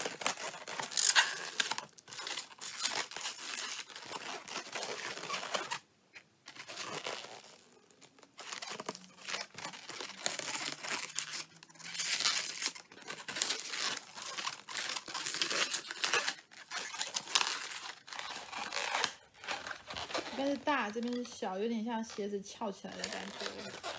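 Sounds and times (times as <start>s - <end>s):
balloons squeaking and rubbing: 0.0s - 23.9s.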